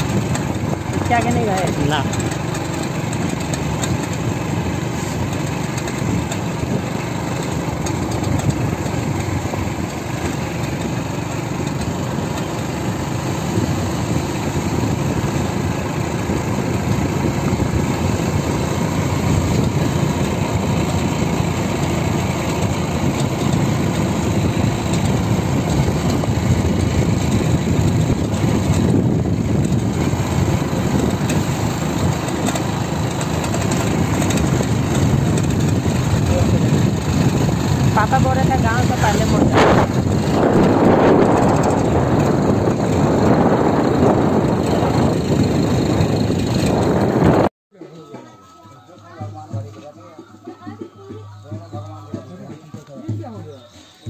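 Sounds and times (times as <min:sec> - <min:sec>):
motorcycle engine running: 0:00.0 - 0:47.5.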